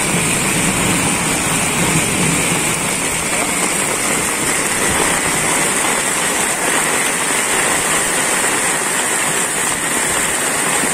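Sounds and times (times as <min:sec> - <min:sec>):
heavy rain on water: 0:00.0 - 0:10.9.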